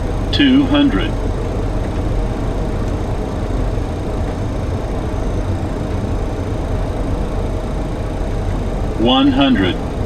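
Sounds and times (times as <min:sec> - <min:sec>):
aircraft cockpit airflow and engines: 0:00.0 - 0:10.0
low hum: 0:00.0 - 0:10.0.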